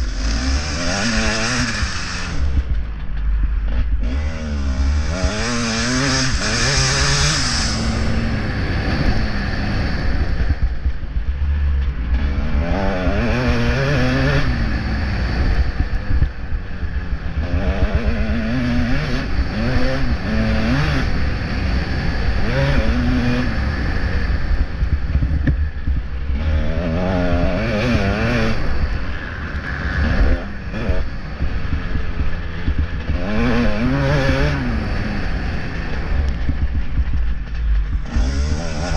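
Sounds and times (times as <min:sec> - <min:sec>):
motocross bike engine revving: 0:00.0 - 0:38.9
wind noise on microphone: 0:00.0 - 0:38.9.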